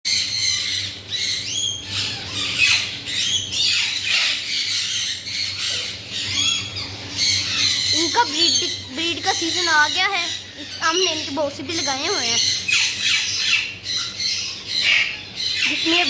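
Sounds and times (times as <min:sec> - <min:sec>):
parakeets squawking: 0:00.1 - 0:16.0.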